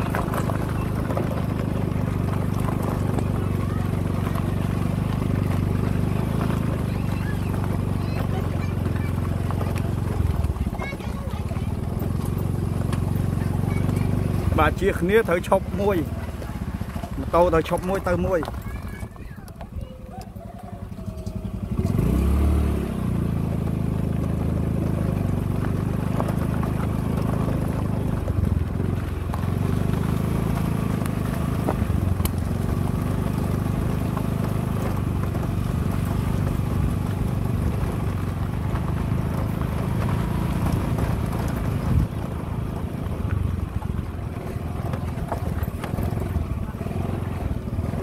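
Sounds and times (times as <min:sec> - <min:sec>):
small motorcycle engine running: 0:00.0 - 0:48.0.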